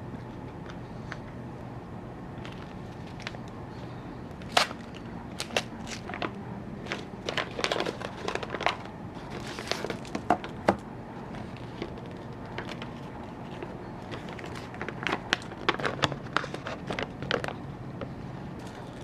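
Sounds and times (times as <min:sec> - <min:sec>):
crinkling noises: 0:00.0 - 0:19.0
steady low hum: 0:00.0 - 0:19.0.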